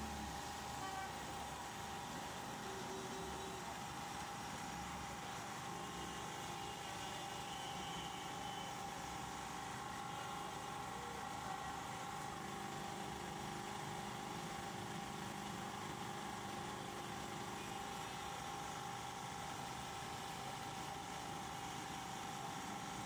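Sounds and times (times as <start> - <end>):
photocopier humming: 0.0 - 23.0
thin steady tone: 0.0 - 23.0.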